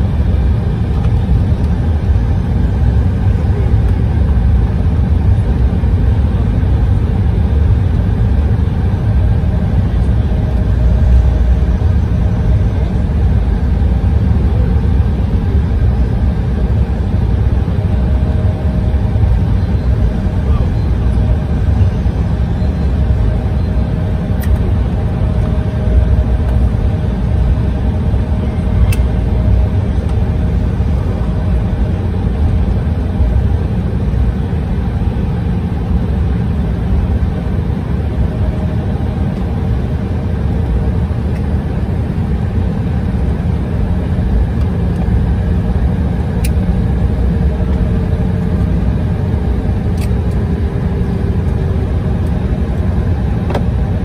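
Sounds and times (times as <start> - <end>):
airliner cabin engine rumble: 0.0 - 54.0
faint hum drifting in pitch: 0.0 - 54.0.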